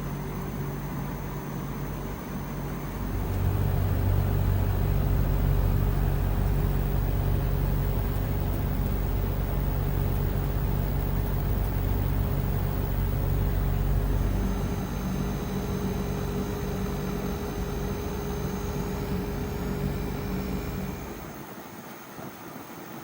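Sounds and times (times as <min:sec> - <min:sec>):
air conditioner fan running: 0:00.0 - 0:21.7
higher hum: 0:02.6 - 0:21.4
deep rumble: 0:02.9 - 0:21.4.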